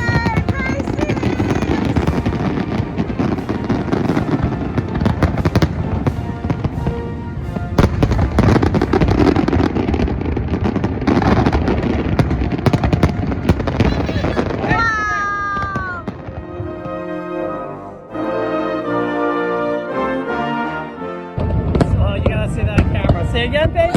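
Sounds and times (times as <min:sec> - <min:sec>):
fireworks bursting and crackling: 0:00.0 - 0:17.2, 0:21.4 - 0:23.9
music playing: 0:00.0 - 0:23.9.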